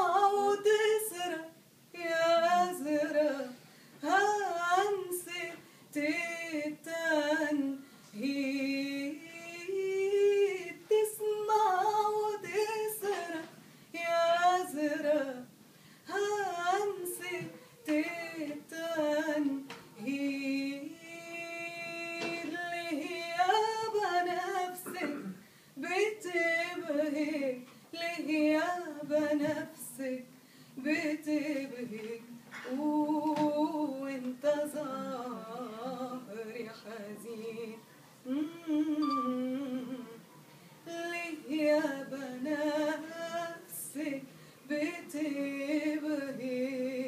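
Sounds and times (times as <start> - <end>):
woman singing unaccompanied: 0.0 - 47.0.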